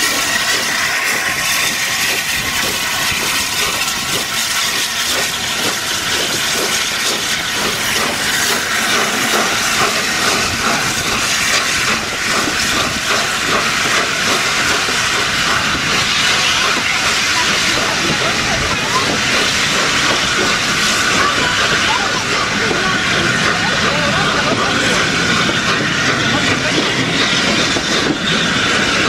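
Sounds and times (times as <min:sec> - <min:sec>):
steam hissing: 0:00.0 - 0:29.0
steam locomotive exhaust chuffs: 0:00.0 - 0:29.0.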